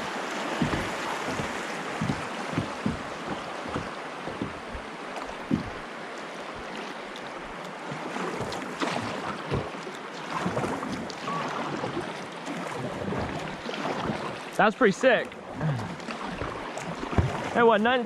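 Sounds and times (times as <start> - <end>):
river water rushing over rapids: 0.0 - 17.8
knocks and splashes: 0.0 - 17.9.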